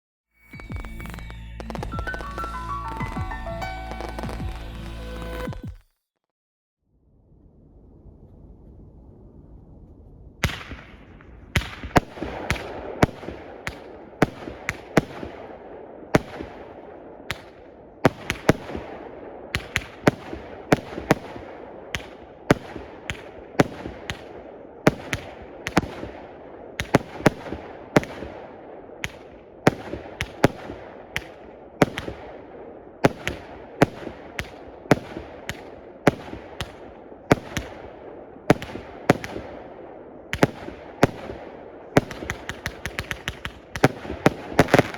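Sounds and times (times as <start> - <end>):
fireworks cake bangs: 0.6 - 5.9, 10.4 - 44.9.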